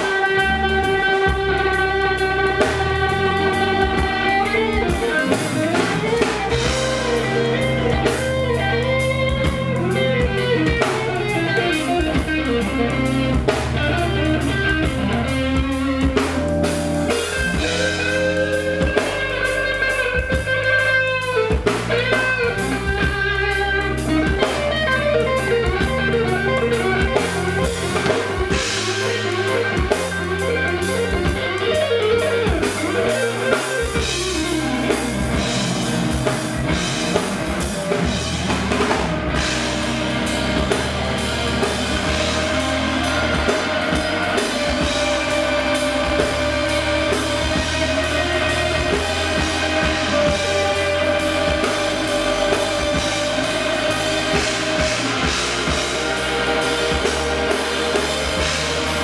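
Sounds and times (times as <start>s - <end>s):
drum kit: 0.0s - 59.0s
electric bass: 0.0s - 59.0s
electric guitar lead: 0.0s - 59.0s.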